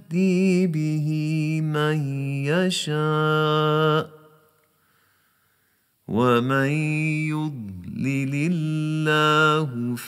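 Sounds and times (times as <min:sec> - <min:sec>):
man's chanted voice reverberating: 0:00.0 - 0:04.8, 0:06.0 - 0:10.0.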